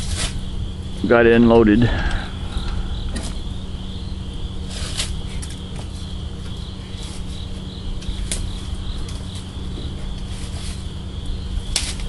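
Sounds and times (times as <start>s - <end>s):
insects chirring: 0.0s - 12.0s
low background rumble: 0.0s - 12.0s.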